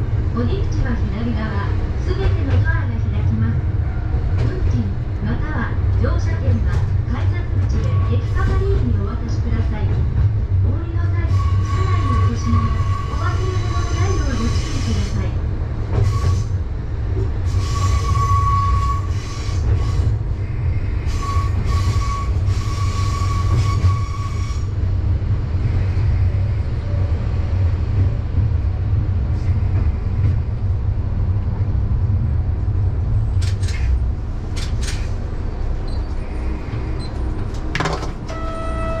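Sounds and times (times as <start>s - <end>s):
train engine and wheels rumbling: 0.0s - 39.0s.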